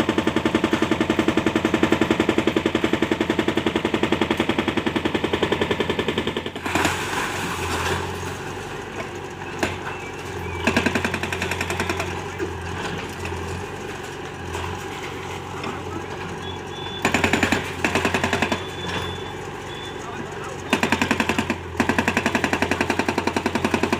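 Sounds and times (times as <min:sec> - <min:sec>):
diesel engine clattering: 0:00.0 - 0:23.9.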